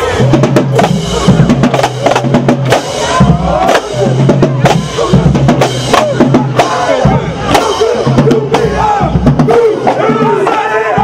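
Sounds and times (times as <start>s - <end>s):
marching drumline playing: 0.0s - 11.0s.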